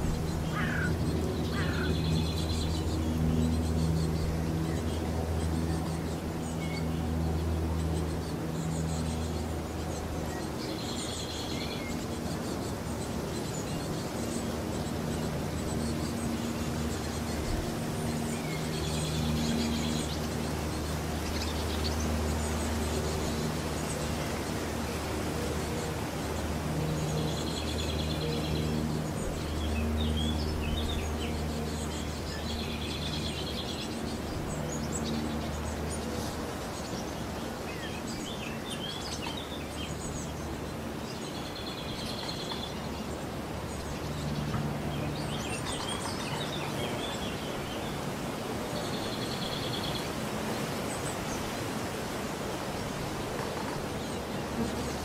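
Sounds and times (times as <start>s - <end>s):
buzzy bird song: 0.0s - 55.0s
low hum with faint tones: 0.0s - 55.0s.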